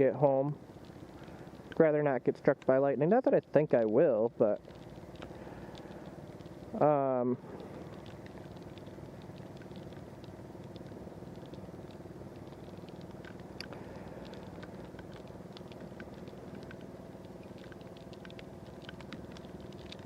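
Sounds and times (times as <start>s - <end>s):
motorcycle engine drone: 0.0s - 20.0s
raindrops clicking on microphone: 0.0s - 20.0s
road noise: 0.0s - 20.0s.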